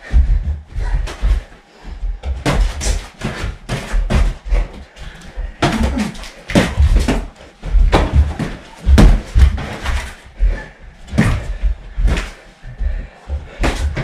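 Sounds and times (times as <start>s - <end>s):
feet thudding on floor: 0.0s - 14.0s.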